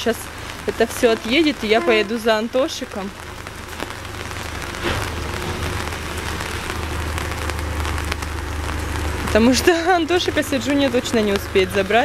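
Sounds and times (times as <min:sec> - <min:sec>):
heavy rain falling: 0:00.0 - 0:12.0
low rumble: 0:00.3 - 0:12.0.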